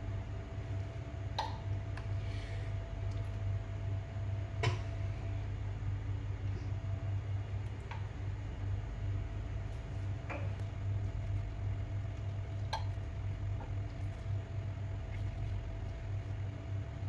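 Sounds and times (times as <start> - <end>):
electric cooktop humming: 0.0 - 17.0.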